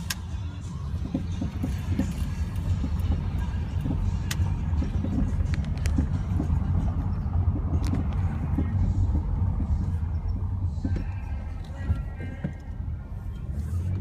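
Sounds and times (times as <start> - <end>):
car rolling rumble inside cabin: 0.0 - 14.0.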